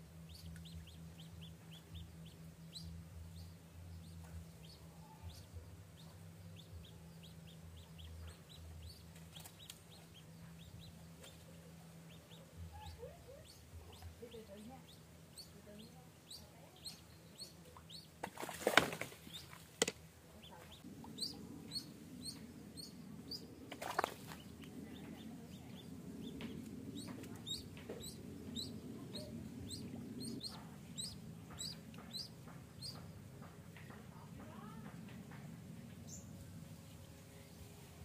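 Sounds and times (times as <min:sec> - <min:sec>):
duckling peeping: 0:00.3 - 0:19.6, 0:20.4 - 0:33.2.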